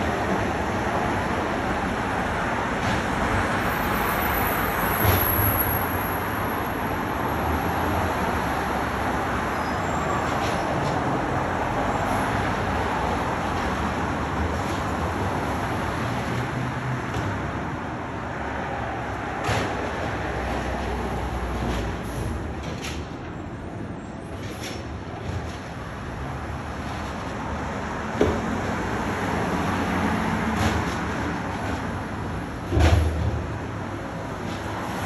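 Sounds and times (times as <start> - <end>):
street traffic: 0.0 - 35.0.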